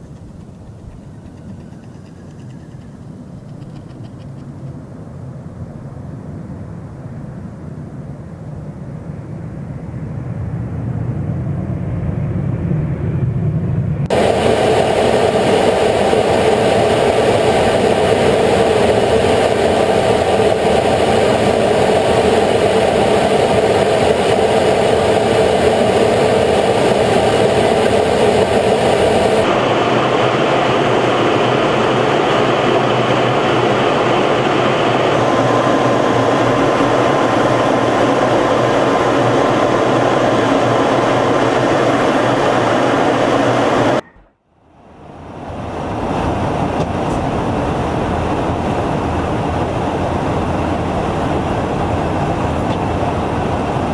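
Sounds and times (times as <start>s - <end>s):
jet aircraft engines: 0.0s - 53.9s.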